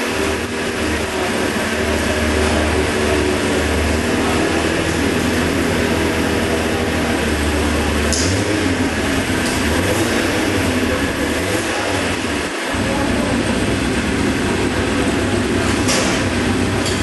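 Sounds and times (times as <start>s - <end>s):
motorcycle engine running at low revs: 0.0s - 17.0s.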